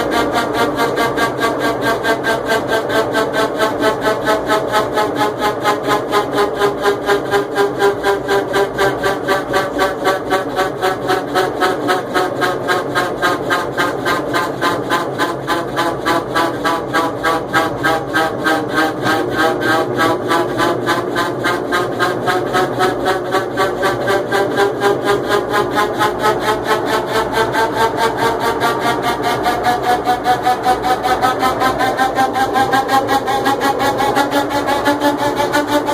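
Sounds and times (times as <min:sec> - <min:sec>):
washing machine hum: 0:00.0 - 0:35.9.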